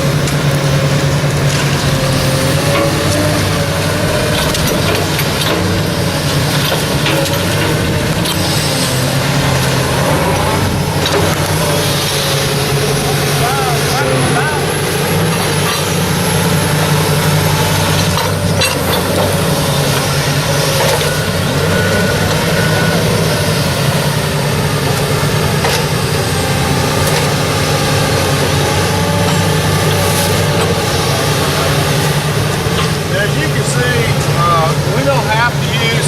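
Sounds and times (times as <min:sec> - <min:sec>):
heavy machine engine idling: 0:00.0 - 0:36.0.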